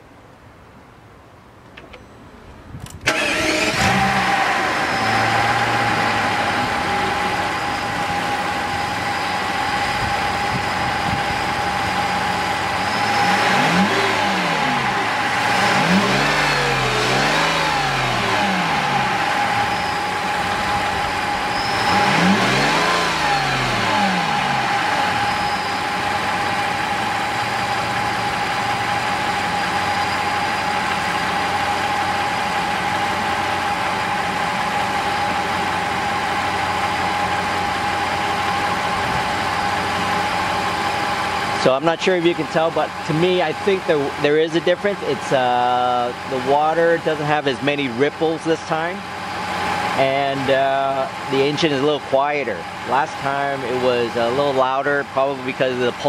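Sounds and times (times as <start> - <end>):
steady whine: 1.8 - 56.0
car engine starting and revving: 2.9 - 56.0.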